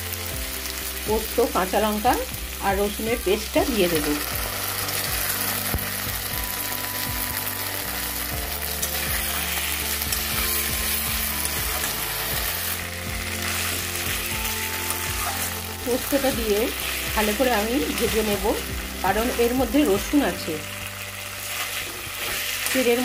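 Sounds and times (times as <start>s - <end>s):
potatoes sizzling in oil: 0.0s - 23.0s.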